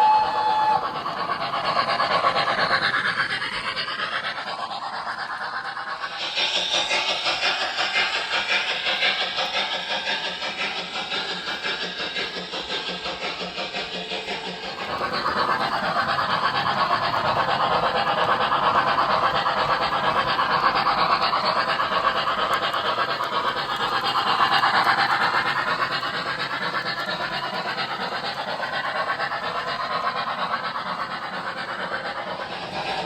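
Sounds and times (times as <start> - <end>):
model train wheels rolling on rail: 0.0 - 33.0.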